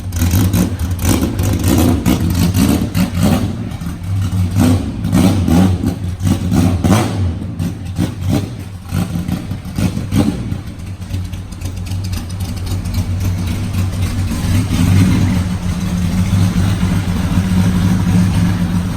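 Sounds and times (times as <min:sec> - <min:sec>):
car engine with loud exhaust: 0:00.0 - 0:18.9.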